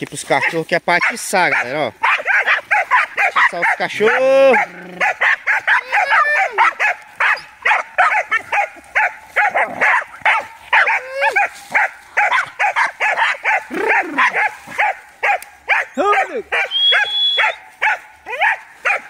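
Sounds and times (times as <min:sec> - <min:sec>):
dogs barking excitedly: 0:00.1 - 0:19.0
dogs yelping: 0:00.3 - 0:19.0.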